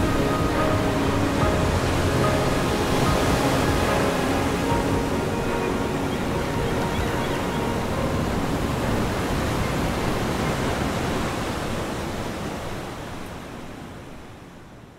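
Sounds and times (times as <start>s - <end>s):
ocean surf rushing: 0.0s - 14.9s.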